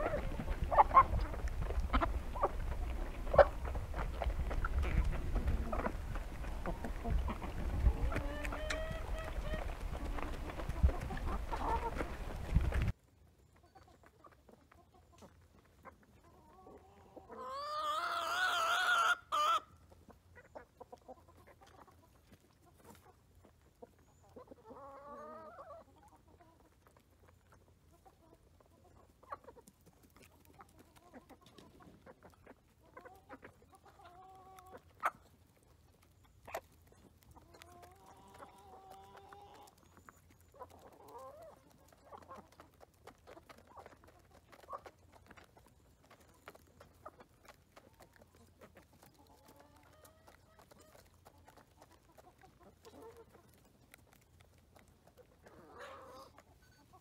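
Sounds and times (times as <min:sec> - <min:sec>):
chickens clucking and calling: 0:00.0 - 0:57.0.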